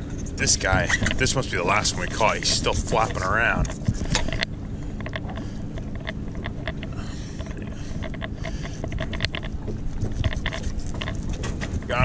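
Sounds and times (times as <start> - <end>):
fish flapping: 0.0 - 11.9
steady low rumble: 0.0 - 12.0.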